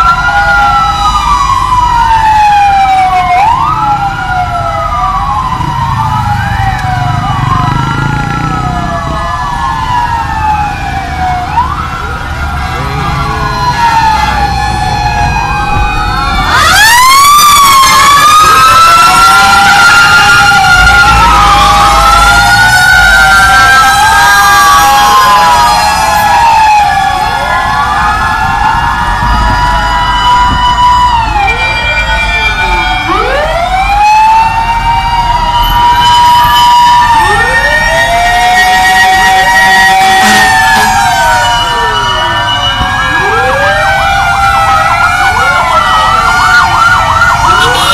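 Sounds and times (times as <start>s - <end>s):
fire truck sirens wailing: 0.0s - 47.9s
truck engines humming: 0.0s - 47.9s.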